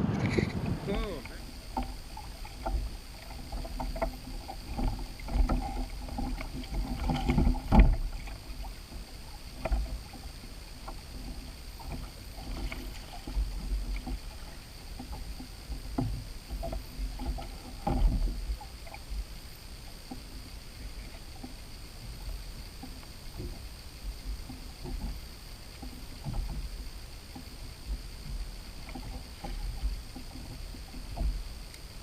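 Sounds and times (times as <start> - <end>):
knocks and bumps aboard boat: 0.0 - 19.2, 20.0 - 31.5
low steady rumble: 0.0 - 32.0.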